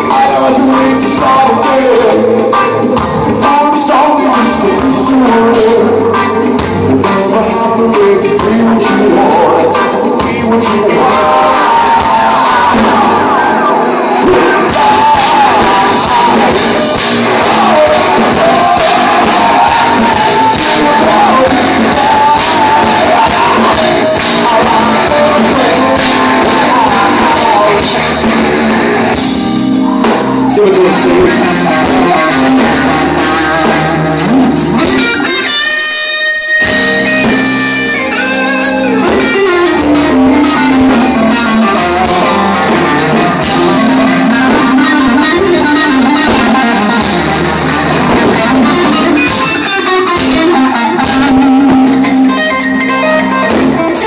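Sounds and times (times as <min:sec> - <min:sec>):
live metal band: 0:00.0 - 0:54.0.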